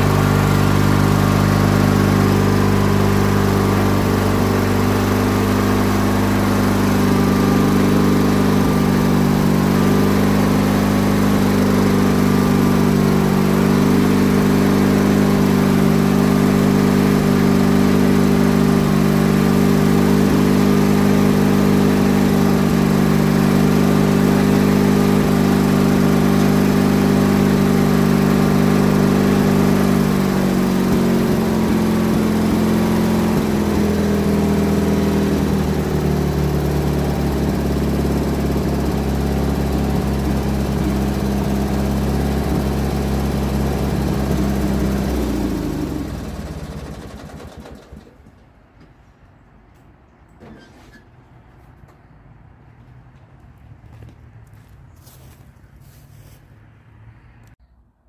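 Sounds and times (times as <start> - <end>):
riding lawn mower engine running: 0.0 - 49.0, 53.8 - 57.6.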